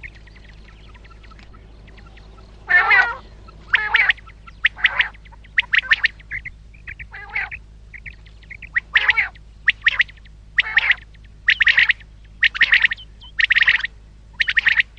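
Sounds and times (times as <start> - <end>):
quail calling: 0.0 - 14.9.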